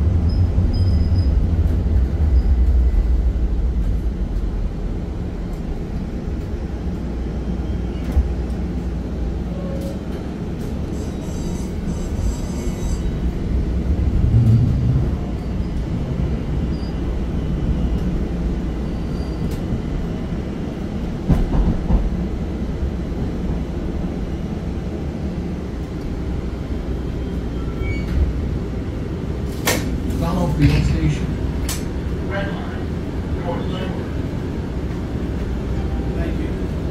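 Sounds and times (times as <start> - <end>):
train low rumble: 0.0 - 36.9.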